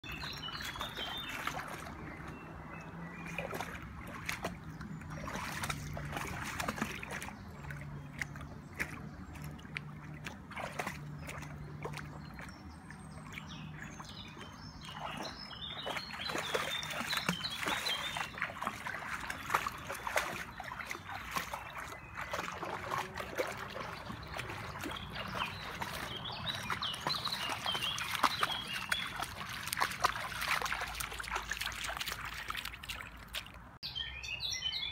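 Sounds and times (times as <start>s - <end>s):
dog splashing through water: 0.0s - 33.8s
birds chirping: 0.0s - 34.9s.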